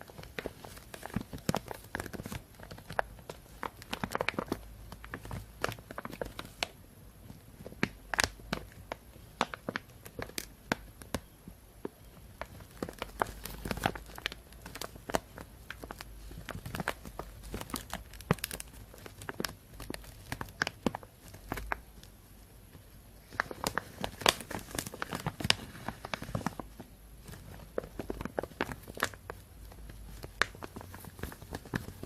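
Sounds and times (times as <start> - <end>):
plastic bag crinkling: 0.0 - 22.1, 23.2 - 32.0.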